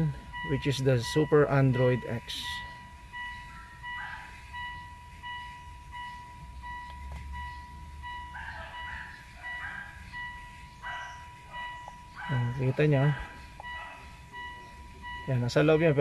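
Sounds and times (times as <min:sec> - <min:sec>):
high-pitched electronic beeping: 0:00.0 - 0:12.7, 0:13.5 - 0:16.0.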